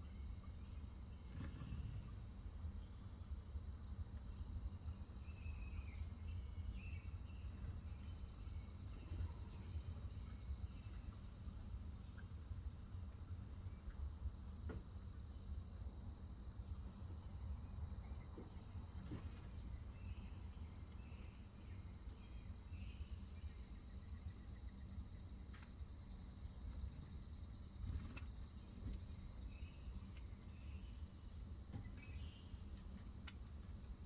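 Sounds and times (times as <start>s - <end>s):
crickets droning: 0.0s - 34.0s.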